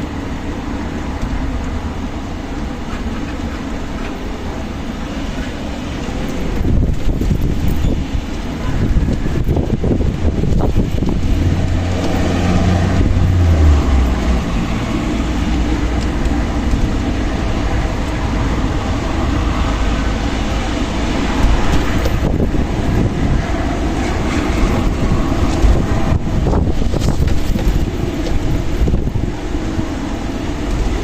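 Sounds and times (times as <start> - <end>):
strong wind buffeting microphone: 0.0 - 31.0.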